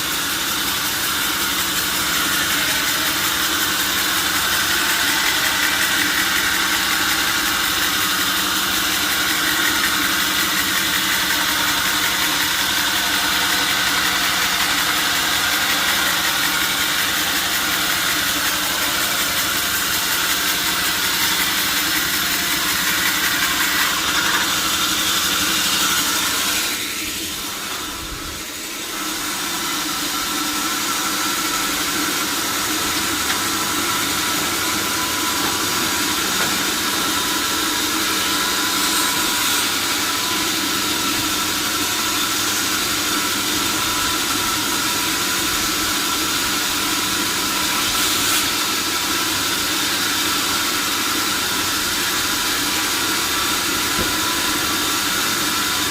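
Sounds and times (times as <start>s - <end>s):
saw machinery humming: 0.0s - 55.9s.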